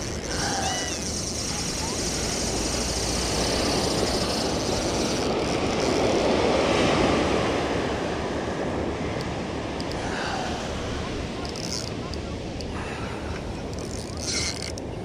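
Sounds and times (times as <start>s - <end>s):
ocean surf rushing on shore: 0.0s - 15.0s.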